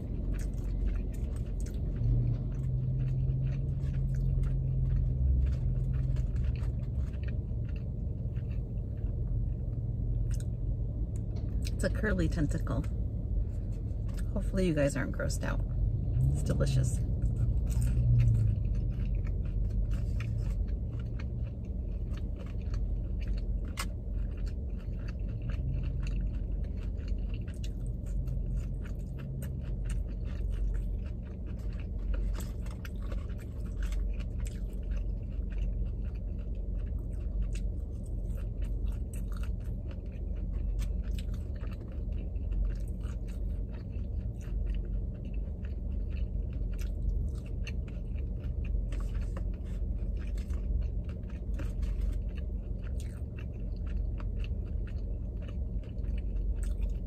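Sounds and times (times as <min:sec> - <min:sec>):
close-up chewing: 0:00.0 - 0:57.0
low car cabin hum: 0:00.0 - 0:57.0.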